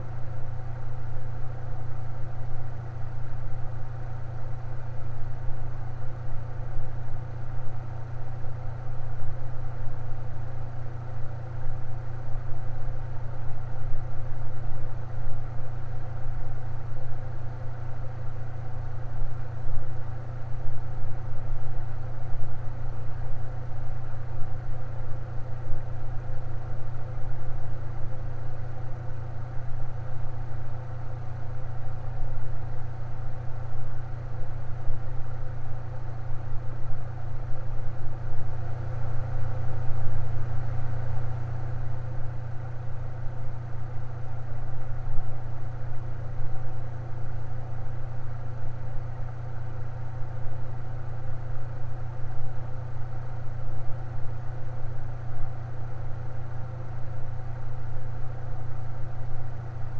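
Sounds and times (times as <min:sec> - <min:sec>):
electric fan humming: 0:00.0 - 0:59.9.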